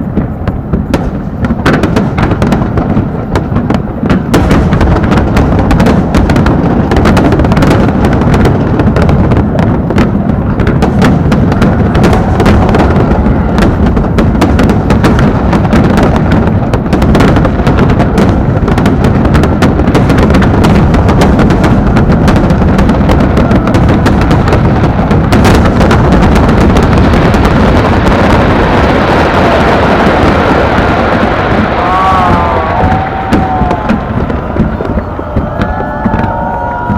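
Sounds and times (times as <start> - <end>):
fireworks booming and cracking: 0.0 - 36.9.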